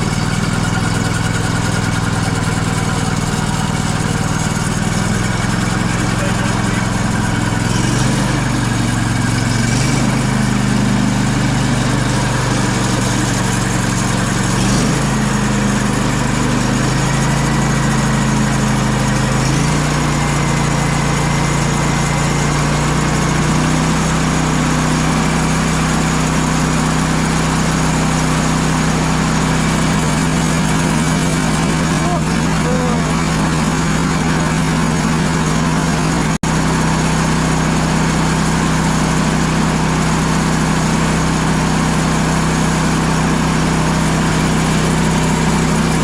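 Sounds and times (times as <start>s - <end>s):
sawmill engine running: 0.0s - 46.0s.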